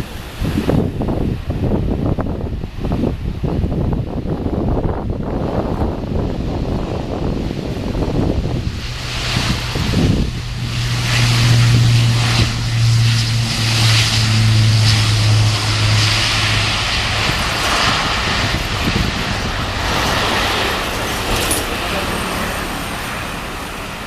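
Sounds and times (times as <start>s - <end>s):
low propeller drone: 0.0s - 24.0s
rushing engine noise: 0.0s - 24.0s.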